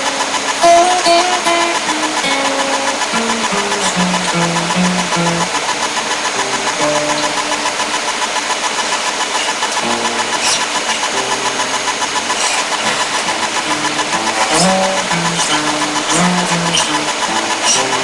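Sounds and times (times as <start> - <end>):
fingerstyle acoustic guitar: 0.0 - 18.0
recording hiss: 0.0 - 18.0.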